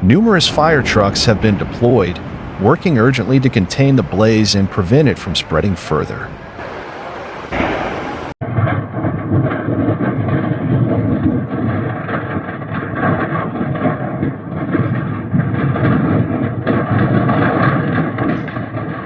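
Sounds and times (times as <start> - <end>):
large fire roaring: 0.0 - 19.0.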